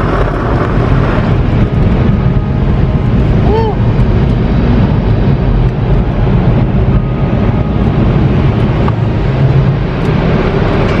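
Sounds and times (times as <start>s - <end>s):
car cabin road rumble and hiss: 0.0s - 11.0s.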